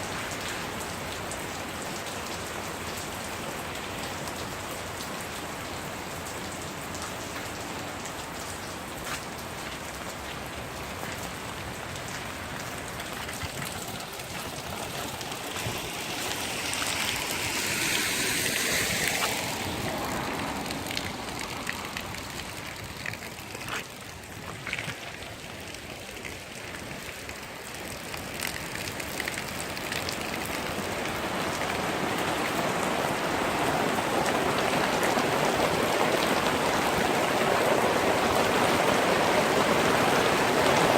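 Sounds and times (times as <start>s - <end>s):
rain hissing: 0.0s - 40.9s
raindrops ticking: 0.0s - 40.9s.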